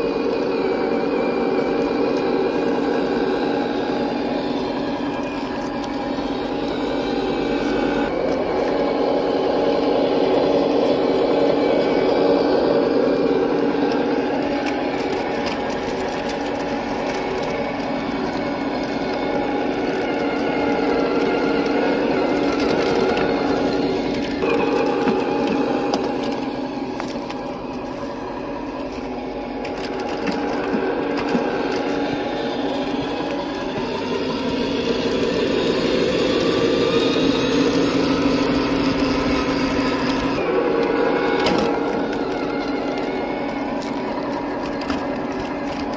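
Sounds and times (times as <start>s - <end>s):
electric drivetrain whine: 0.0s - 45.9s
simulated diesel engine from speaker: 0.0s - 45.9s.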